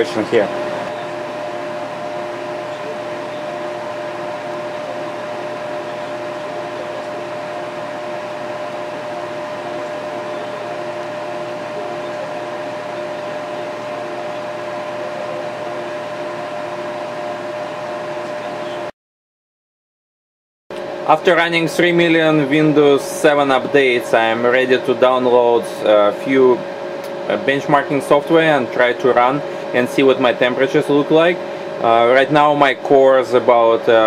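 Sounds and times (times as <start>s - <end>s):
computer fans running: 0.0s - 18.9s, 20.7s - 34.0s.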